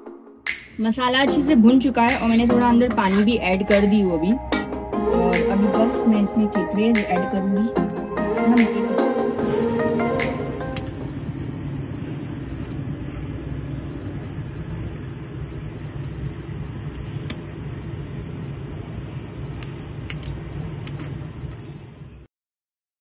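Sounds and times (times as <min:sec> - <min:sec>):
low mechanical hum: 0:01.0 - 0:22.3.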